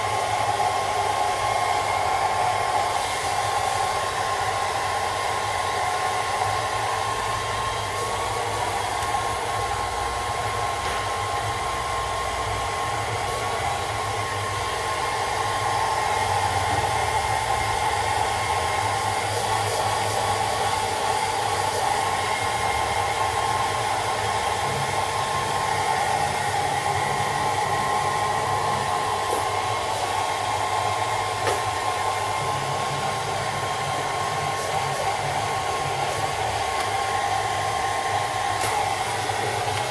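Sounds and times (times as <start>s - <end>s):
hairdryer blowing: 0.0s - 39.9s.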